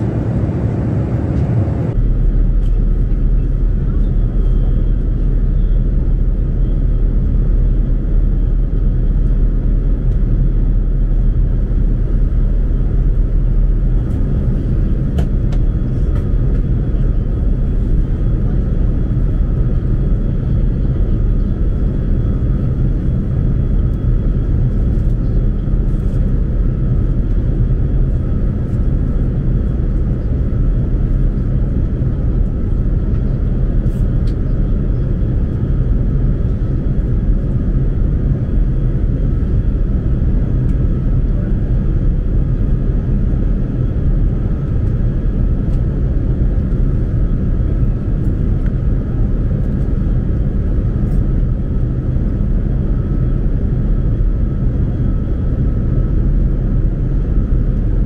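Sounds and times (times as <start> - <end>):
aircraft engines and airflow rumble: 0.0 - 58.0.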